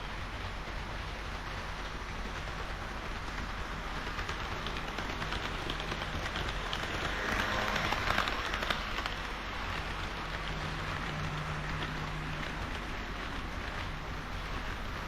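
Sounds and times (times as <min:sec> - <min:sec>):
model train rolling rattle: 0:00.0 - 0:15.0
wheels clicking over rail joints: 0:00.0 - 0:15.0.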